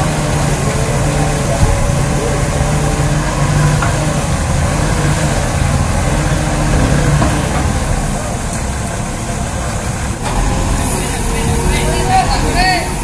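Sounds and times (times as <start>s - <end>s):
forklift diesel engine running: 0.0s - 13.0s.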